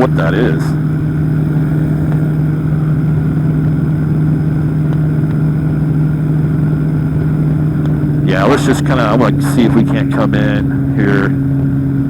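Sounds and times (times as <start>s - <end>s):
engine and propeller drone: 0.0s - 12.0s.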